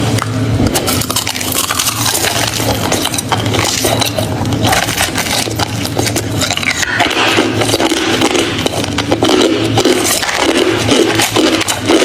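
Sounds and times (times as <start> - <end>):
person chewing crushed ice: 0.0 - 12.0.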